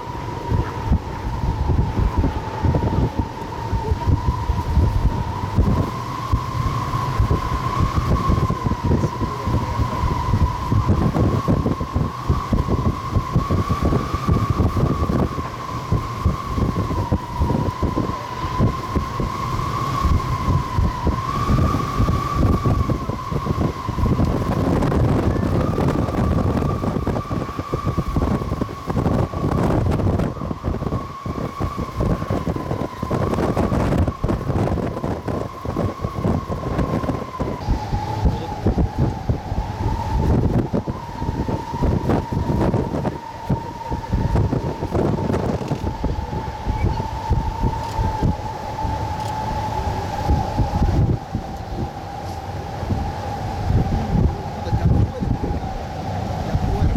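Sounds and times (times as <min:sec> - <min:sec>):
jet engines whining: 0:00.0 - 0:56.9
wind buffeting microphone: 0:00.0 - 0:56.9.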